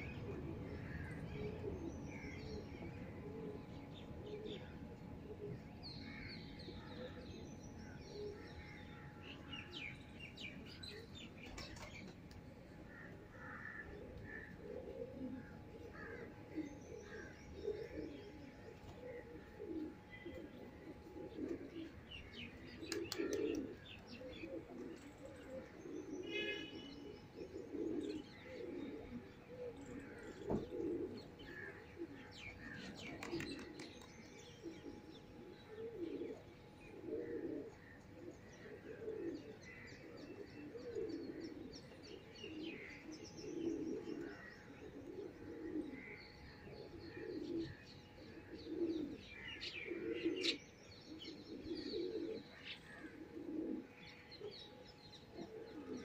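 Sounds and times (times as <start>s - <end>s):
pigeons cooing: 0.0s - 8.7s, 10.6s - 56.0s.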